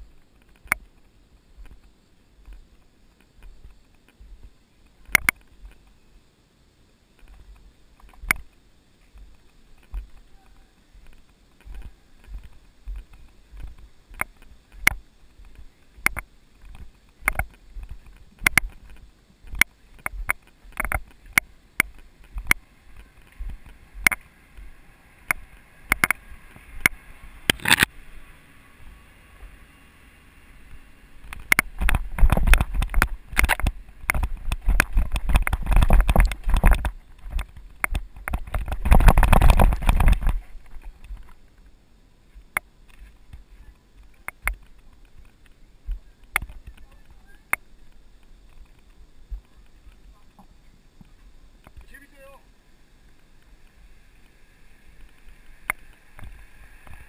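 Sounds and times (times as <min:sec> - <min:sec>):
wind and tyre rumble: 0:00.0 - 0:57.0
bike rattling over trail: 0:07.1 - 0:57.0.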